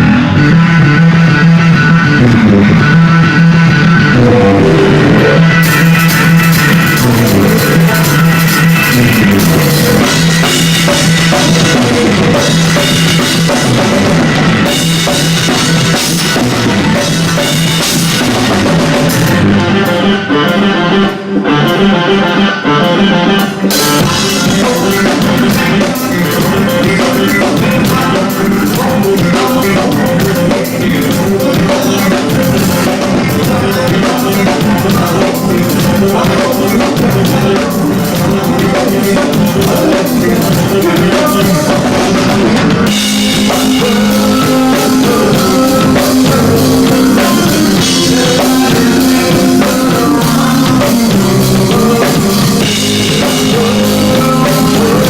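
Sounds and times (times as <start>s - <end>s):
drum kit: 0.0s - 55.0s
electric guitar: 0.0s - 55.0s
funk bass line: 0.0s - 55.0s.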